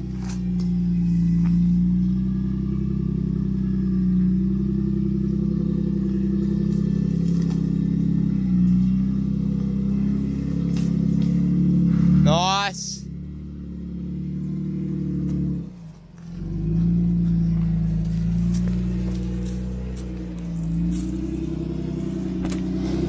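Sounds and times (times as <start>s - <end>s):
vehicle engine at low revs: 0.0s - 23.0s.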